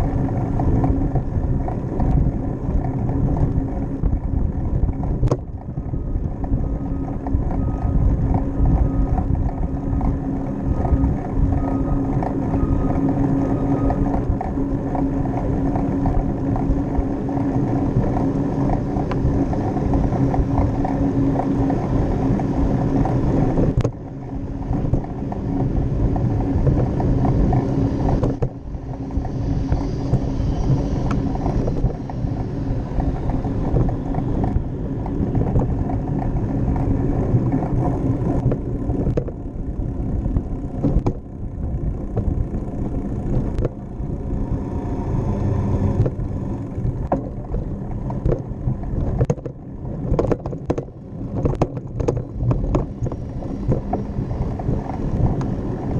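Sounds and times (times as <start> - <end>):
bicycle knocks and rattles: 0.0 - 44.6, 45.8 - 55.9
bicycle tyre rumble: 0.0 - 55.9.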